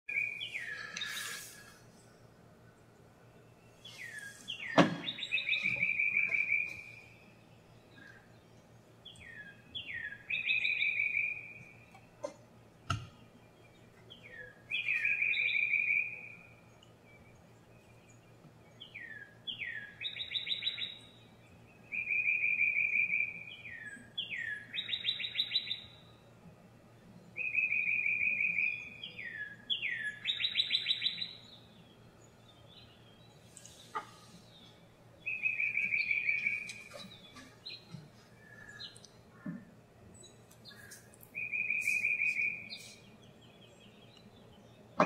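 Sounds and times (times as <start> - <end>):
songbird singing: 0.1 - 45.0.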